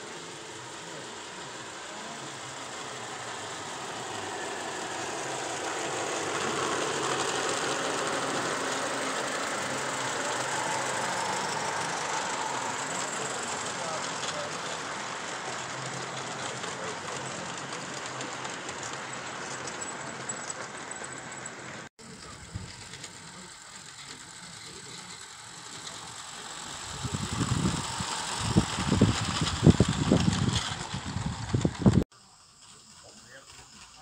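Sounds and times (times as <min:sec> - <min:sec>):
model train wheels rattling on rails: 0:00.0 - 0:34.0.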